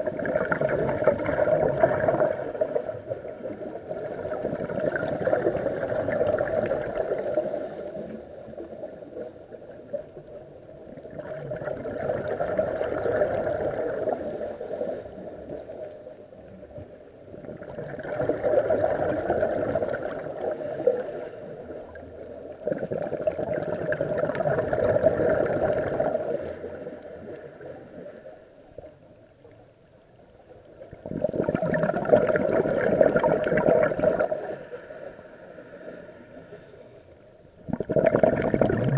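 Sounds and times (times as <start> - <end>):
underwater breath bubbles: 0.0 - 10.2, 10.9 - 15.9, 17.3 - 28.9, 30.7 - 38.9.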